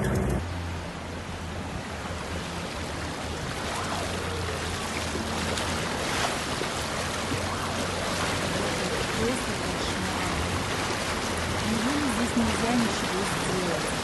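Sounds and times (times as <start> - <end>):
low engine hum: 0.0 - 14.0
floodwater sloshing against car: 1.2 - 14.0.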